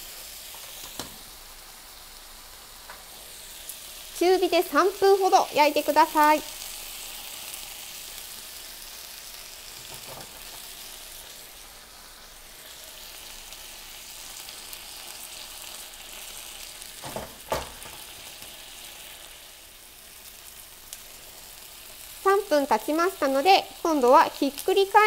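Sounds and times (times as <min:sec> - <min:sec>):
chicken sizzling in a frying pan: 0:00.0 - 0:25.0.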